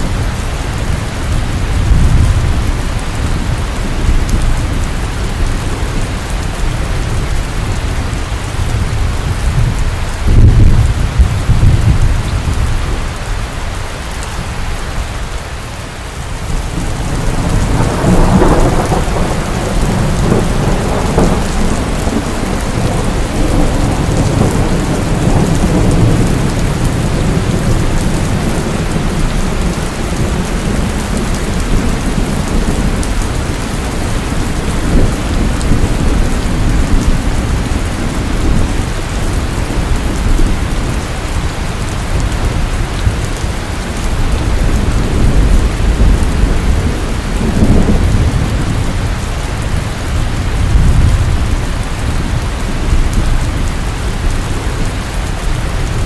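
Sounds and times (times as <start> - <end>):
thunder rumbling: 0.0 - 13.2, 14.0 - 56.0
steady rain: 0.0 - 56.0.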